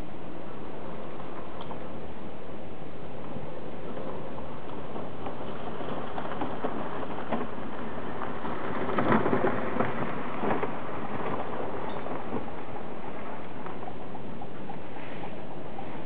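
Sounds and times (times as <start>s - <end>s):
gravel crunching under tyres: 3.0s - 16.0s.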